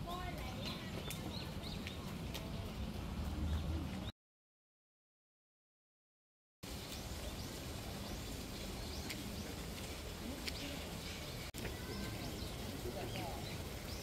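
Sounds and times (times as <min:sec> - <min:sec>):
birds chirping: 0:00.0 - 0:04.1, 0:06.6 - 0:14.0.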